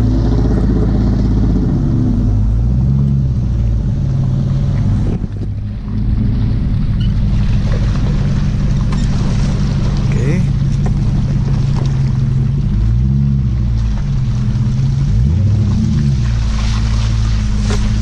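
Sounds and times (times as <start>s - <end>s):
engine revving under load: 0.0s - 18.0s.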